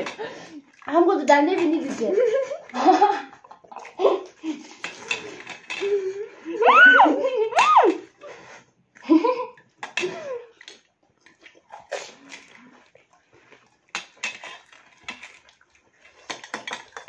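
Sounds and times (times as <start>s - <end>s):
water splashing: 0.0s - 8.1s, 9.0s - 17.0s.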